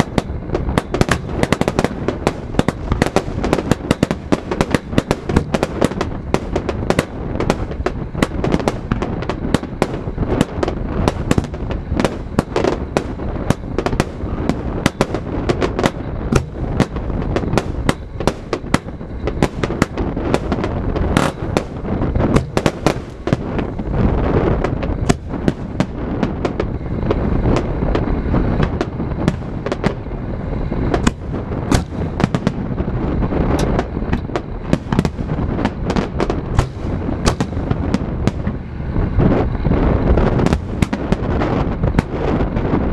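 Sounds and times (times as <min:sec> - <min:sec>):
fireworks bursting and crackling: 0:00.0 - 0:42.9
low rumble: 0:00.0 - 0:42.9.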